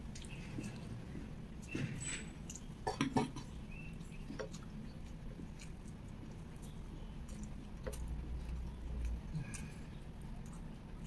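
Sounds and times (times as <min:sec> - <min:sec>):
chewing sticky food: 0:00.0 - 0:11.0
fingers picking at food: 0:00.0 - 0:11.0.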